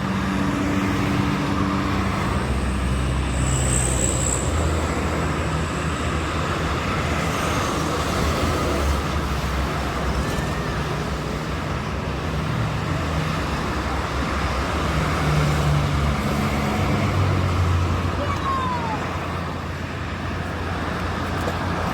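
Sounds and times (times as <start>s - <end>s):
traffic rumble: 0.0s - 21.9s.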